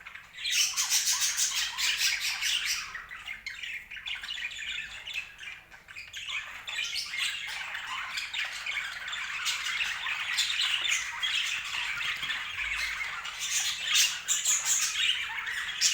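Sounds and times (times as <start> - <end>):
budgerigars chattering: 0.0 - 15.9.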